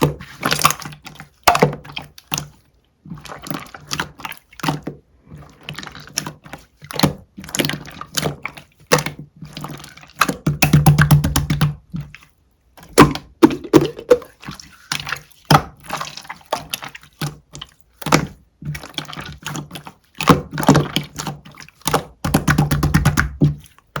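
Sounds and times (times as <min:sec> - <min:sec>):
slime squishing: 0:00.0 - 0:24.0.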